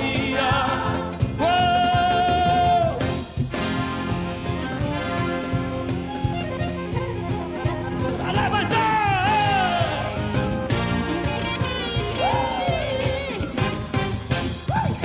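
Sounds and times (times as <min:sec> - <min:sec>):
instrumental music with steady beat: 0:00.0 - 0:14.8.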